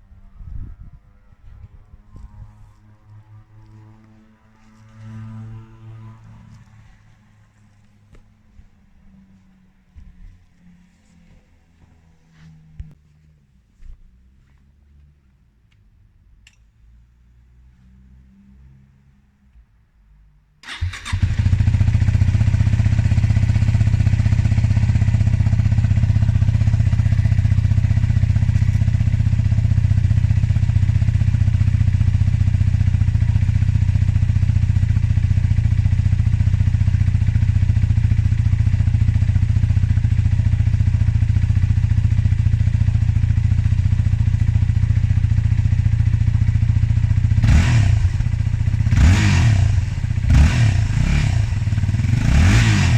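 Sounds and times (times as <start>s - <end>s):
motorcycle engine starting and idling: 0.0s - 13.0s, 20.6s - 52.9s.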